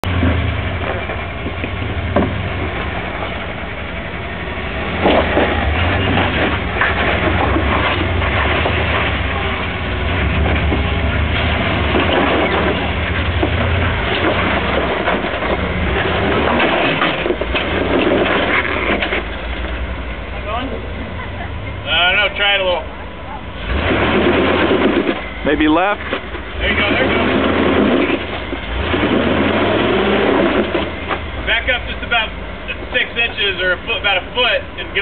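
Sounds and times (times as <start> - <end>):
knocks and scrapes: 0.0 - 3.6, 4.7 - 20.3, 23.6 - 33.1
car engine running at low revs: 0.0 - 35.0.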